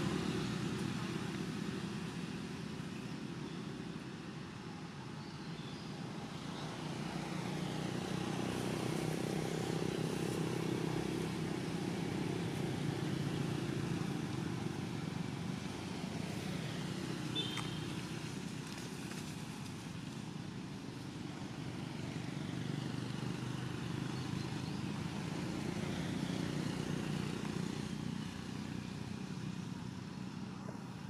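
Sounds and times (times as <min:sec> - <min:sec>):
vehicle passing on road: 0:00.0 - 0:03.0, 0:06.1 - 0:31.0.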